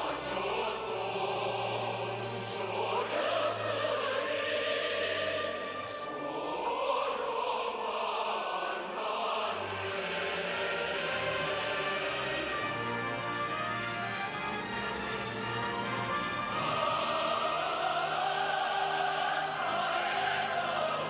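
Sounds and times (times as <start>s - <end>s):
choir singing held notes: 0.0s - 21.0s.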